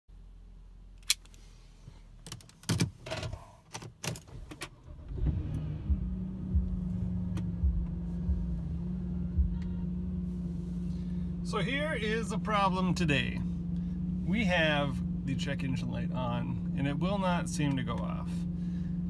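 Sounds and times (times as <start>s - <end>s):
car engine starting and idling: 0.4s - 19.0s.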